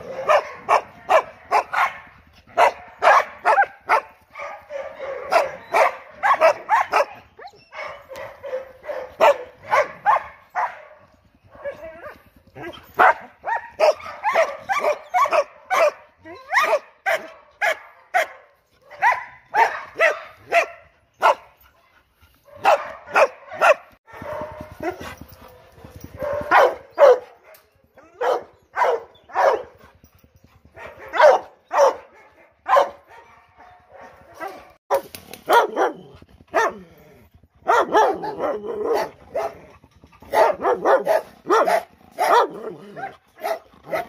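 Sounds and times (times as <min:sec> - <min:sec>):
dogs barking: 0:00.0 - 0:21.7, 0:22.4 - 0:37.0, 0:37.6 - 0:44.0.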